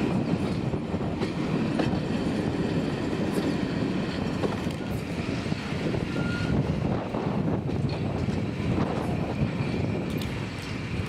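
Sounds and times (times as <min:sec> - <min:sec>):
train wheels rumbling: 0:00.0 - 0:11.0
wind on microphone: 0:00.0 - 0:11.0.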